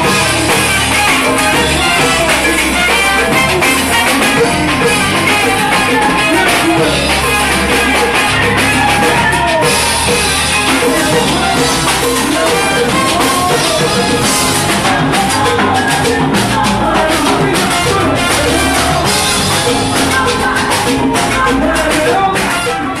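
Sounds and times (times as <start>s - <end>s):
drum kit and percussion beat: 0.0s - 23.0s
salsa band playing live: 0.0s - 23.0s.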